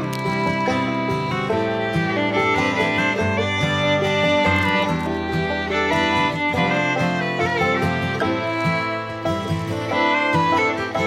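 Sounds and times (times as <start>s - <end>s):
fiddle playing lively melody: 0.0s - 11.0s
guitar accompaniment: 0.0s - 11.0s.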